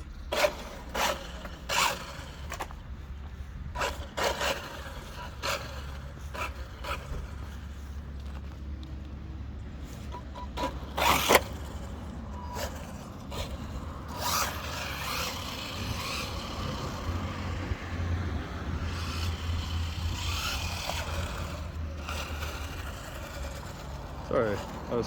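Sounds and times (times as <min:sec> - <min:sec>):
rc car motor and tyres: 0:00.0 - 0:25.0.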